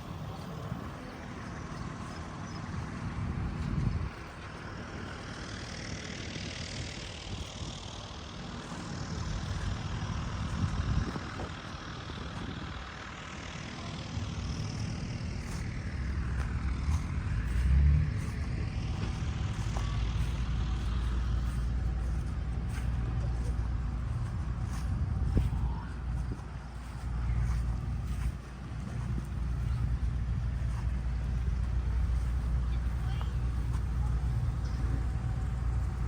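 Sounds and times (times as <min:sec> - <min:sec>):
machinery engines droning: 0:00.0 - 0:36.0.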